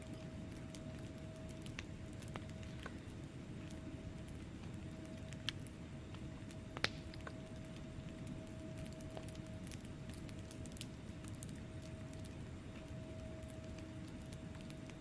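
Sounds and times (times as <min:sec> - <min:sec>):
faint steady hum: 0:00.0 - 0:15.0
fire rumbling: 0:00.0 - 0:15.0
logs crackling and popping: 0:00.0 - 0:15.0.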